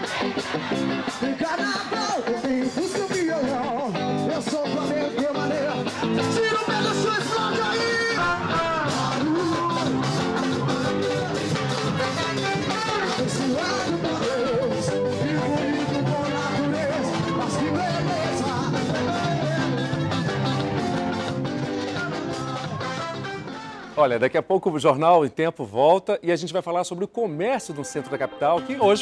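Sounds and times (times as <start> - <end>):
person singing: 0.0 - 24.0, 27.7 - 29.0
live band playing: 0.0 - 24.3, 27.2 - 29.0.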